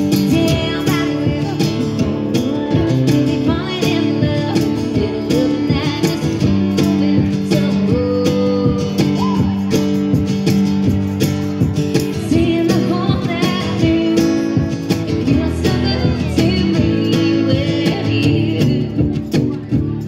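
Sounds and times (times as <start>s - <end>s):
woman singing: 0.0s - 9.8s, 12.0s - 20.0s
strummed acoustic guitar: 0.0s - 20.0s.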